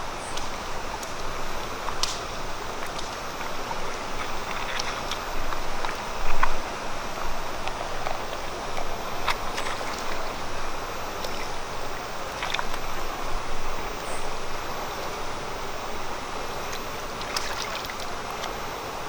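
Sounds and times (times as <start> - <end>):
small clicks and ticks: 0.2 - 18.6.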